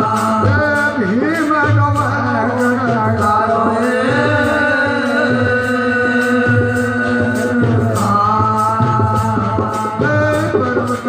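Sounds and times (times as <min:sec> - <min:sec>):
percussion beat: 0:00.0 - 0:11.0
person singing devotional song: 0:00.0 - 0:11.0.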